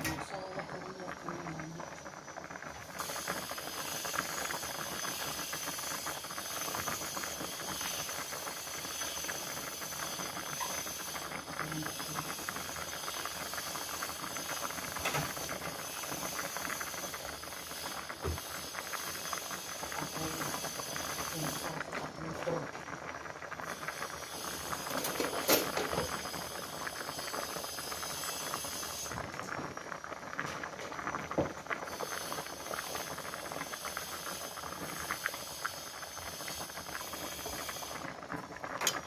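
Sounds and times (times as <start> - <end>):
fish boiling with bubbling hiss: 0.0 - 39.0.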